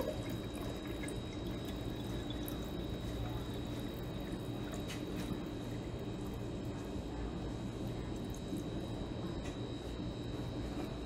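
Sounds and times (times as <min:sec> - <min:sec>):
liquid pouring into a jar: 0:00.0 - 0:09.2.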